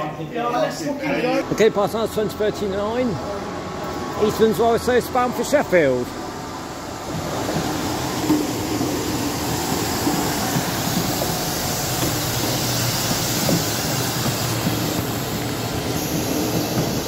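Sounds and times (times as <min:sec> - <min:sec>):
diesel train low drone: 0:00.0 - 0:17.0.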